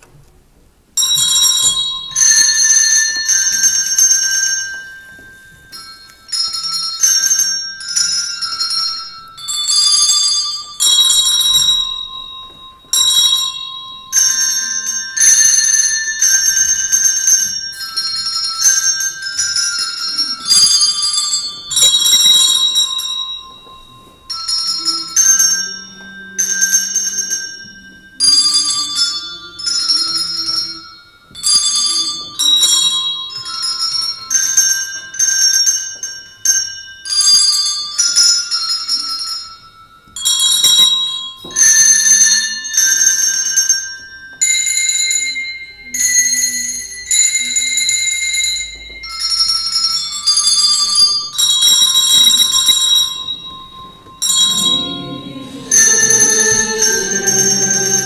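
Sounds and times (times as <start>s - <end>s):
handbell choir playing chords: 1.0s - 58.0s.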